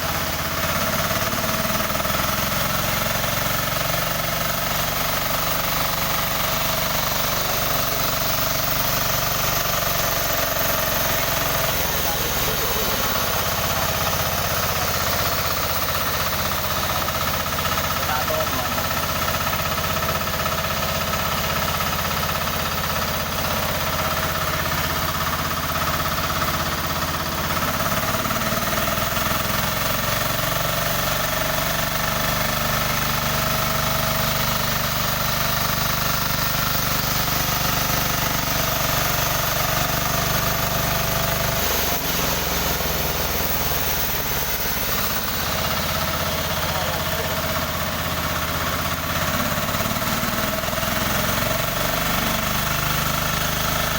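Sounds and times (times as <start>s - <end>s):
sawmill engine knocking: 0.0s - 53.9s.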